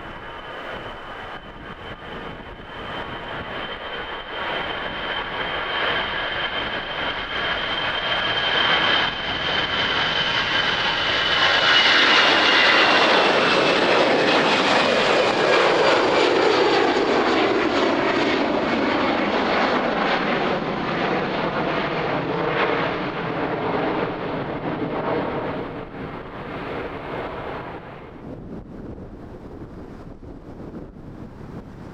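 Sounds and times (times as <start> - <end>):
jet airliner passing: 0.0 - 31.9.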